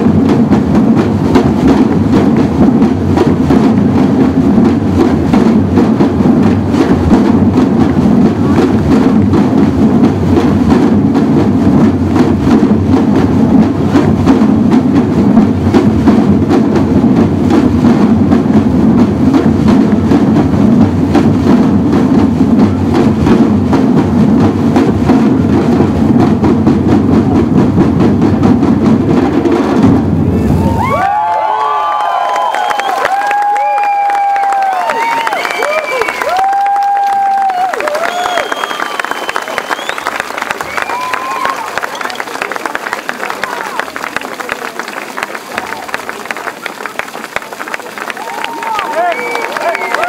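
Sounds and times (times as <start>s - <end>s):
bass drums: 0.0s - 42.3s
snare drums: 0.0s - 50.0s.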